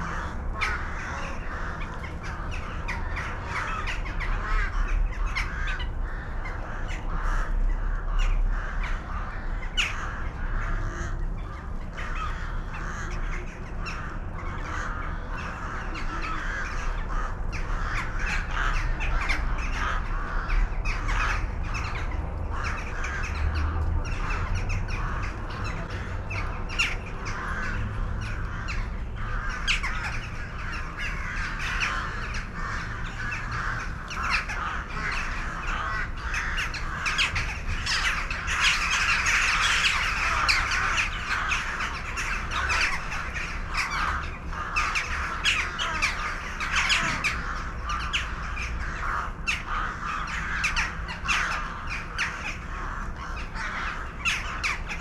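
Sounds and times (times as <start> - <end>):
many birds chattering: 0.0 - 55.0.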